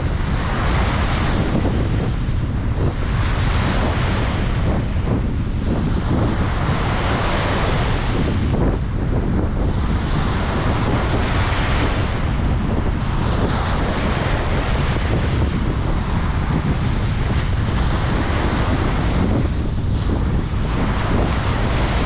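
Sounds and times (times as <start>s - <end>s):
ocean surf on a beach: 0.0s - 22.0s
wind buffeting microphone: 0.0s - 22.0s.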